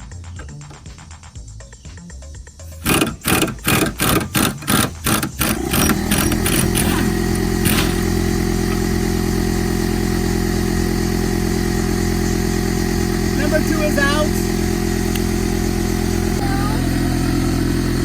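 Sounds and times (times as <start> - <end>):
steady mechanical drone: 0.0 - 18.0
impact wrench bursts: 2.8 - 18.0.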